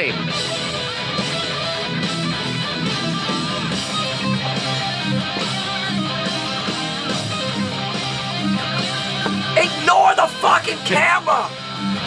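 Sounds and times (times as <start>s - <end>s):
guitar playing: 0.0s - 12.0s.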